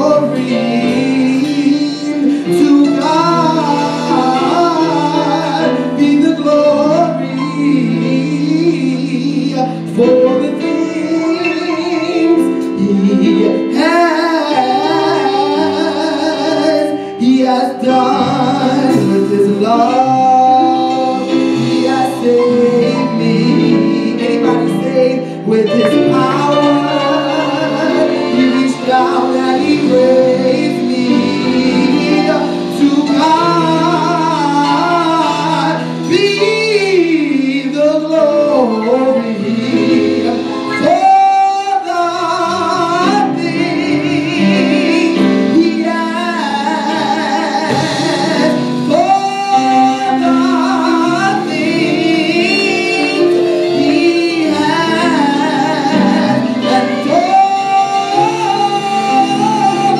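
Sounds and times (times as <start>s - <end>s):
band with keyboards and drums: 0.0s - 59.9s
man singing gospel: 0.0s - 59.9s.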